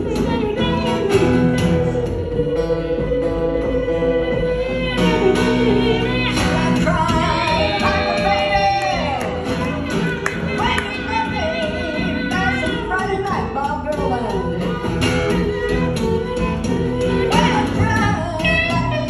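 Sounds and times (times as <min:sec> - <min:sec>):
acoustic guitar: 0:00.0 - 0:19.0
slide guitar wailing lead: 0:00.0 - 0:19.0.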